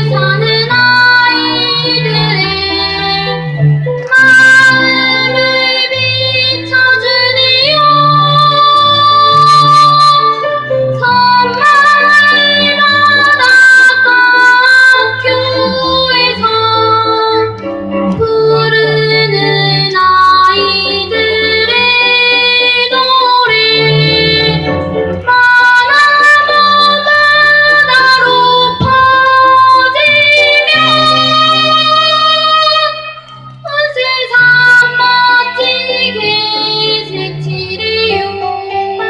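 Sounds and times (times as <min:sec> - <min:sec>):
child singing: 0:00.0 - 0:17.4, 0:18.2 - 0:24.4, 0:25.3 - 0:33.1, 0:33.7 - 0:39.0
musical accompaniment: 0:00.0 - 0:39.0.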